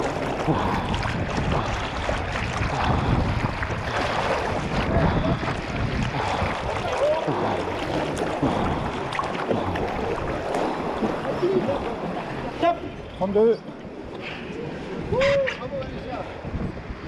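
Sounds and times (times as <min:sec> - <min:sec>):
river water splashing: 0:00.0 - 0:16.6.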